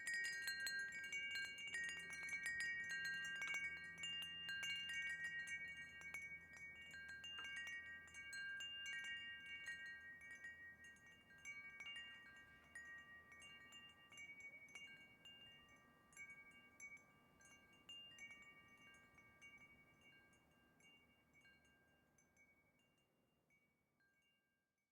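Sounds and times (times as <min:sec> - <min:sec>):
wind chimes ringing: 0:00.0 - 0:23.1.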